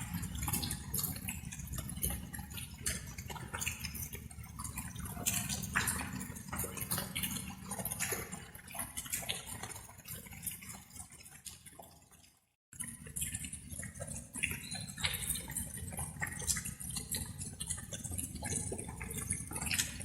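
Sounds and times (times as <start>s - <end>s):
rain drops dripping: 0.0s - 20.0s.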